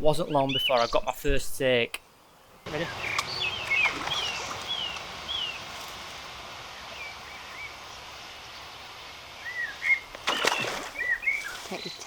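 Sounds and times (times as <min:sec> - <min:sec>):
small birds chirping: 0:00.0 - 0:12.0
steady background hiss: 0:00.0 - 0:12.0.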